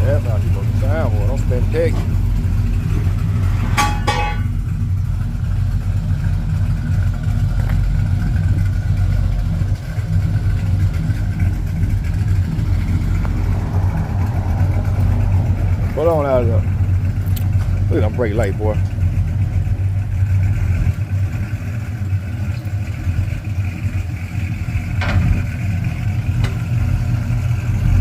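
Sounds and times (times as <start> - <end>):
truck engine exhaust rumble: 0.0 - 28.0.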